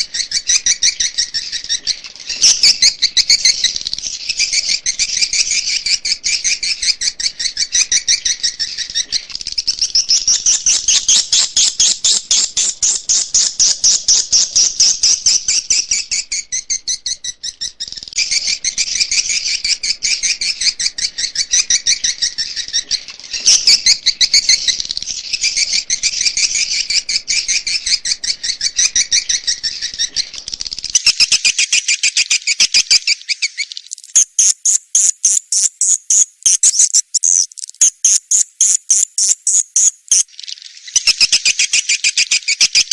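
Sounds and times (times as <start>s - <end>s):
swiftlets twittering chirps: 0.0s - 42.9s.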